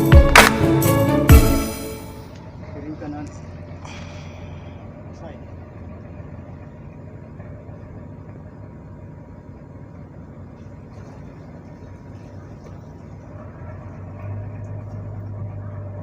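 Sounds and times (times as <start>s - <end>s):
ship machinery low drone: 0.0s - 16.0s.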